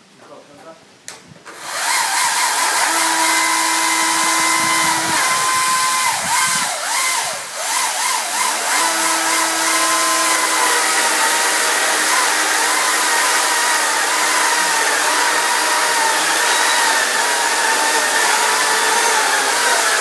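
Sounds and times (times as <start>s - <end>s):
electric chainsaw whining: 1.5s - 20.0s.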